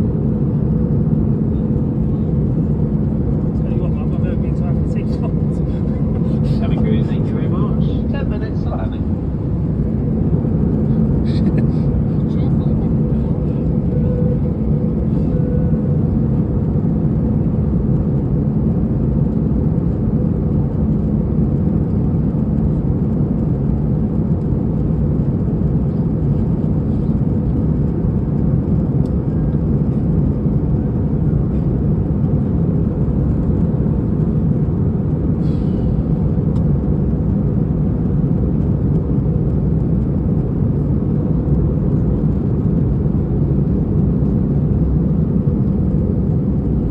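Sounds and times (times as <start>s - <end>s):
jet airliner cabin rumble: 0.0s - 46.9s.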